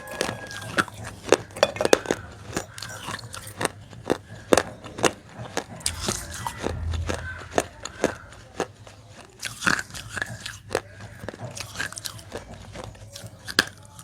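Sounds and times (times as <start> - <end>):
baked clay being chewed: 0.0 - 14.0.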